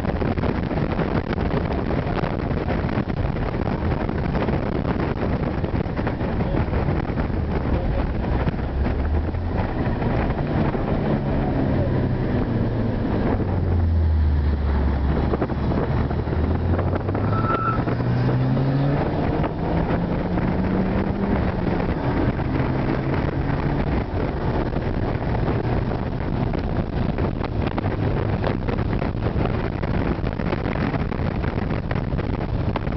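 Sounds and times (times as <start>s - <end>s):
road and wind noise: 0.0s - 32.9s
car engine revving: 0.2s - 32.9s.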